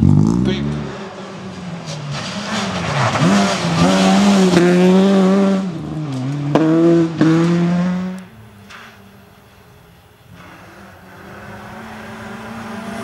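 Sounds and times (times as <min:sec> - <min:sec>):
rally car engine at high revs: 0:00.0 - 0:09.0, 0:10.2 - 0:13.0.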